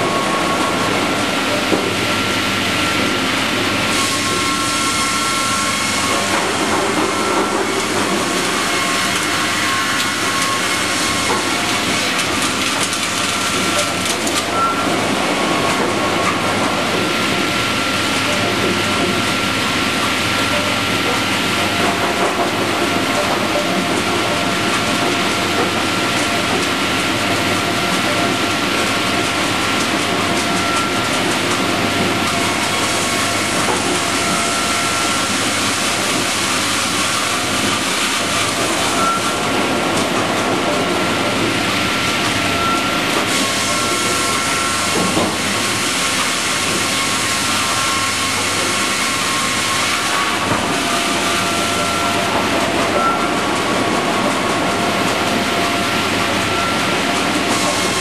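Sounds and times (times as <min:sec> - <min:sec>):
sawmill machine din with whine: 0:00.0 - 0:58.0.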